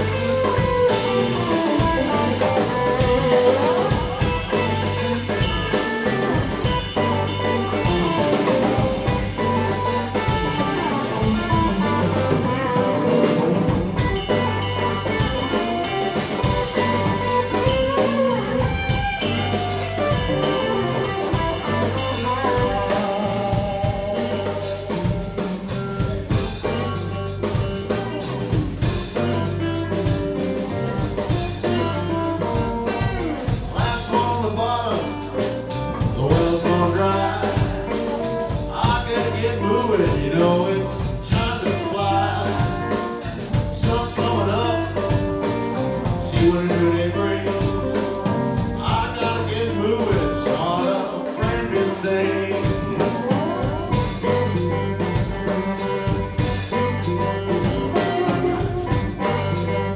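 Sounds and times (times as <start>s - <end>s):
bass: 0.0s - 59.9s
drum kit: 0.0s - 59.9s
electric guitar: 0.0s - 59.9s.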